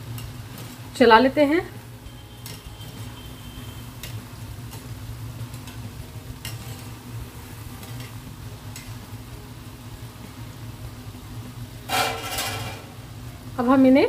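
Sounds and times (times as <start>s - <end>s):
dough sizzling in hot oil: 0.0s - 14.0s.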